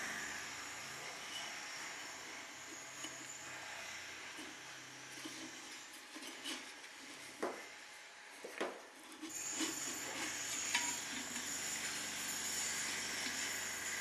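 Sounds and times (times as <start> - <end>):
rubbing and handling noises: 2.2 - 14.0.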